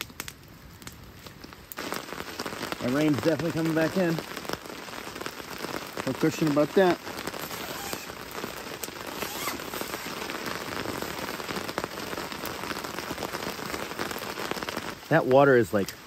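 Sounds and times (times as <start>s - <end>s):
raindrops ticking: 0.0s - 16.0s
steady rain falling: 0.0s - 16.0s.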